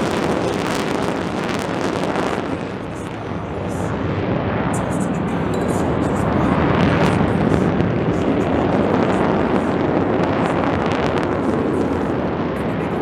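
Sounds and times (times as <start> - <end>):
jet flyby roar: 0.0 - 13.0
jet noise crackles: 0.0 - 13.0.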